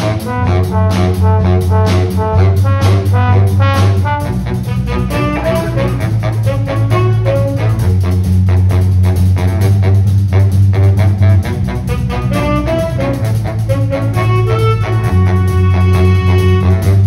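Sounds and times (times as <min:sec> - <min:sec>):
drum kit beat: 0:00.0 - 0:17.0
low bass line: 0:00.0 - 0:17.0
saxophones and trombone melody: 0:00.0 - 0:17.0.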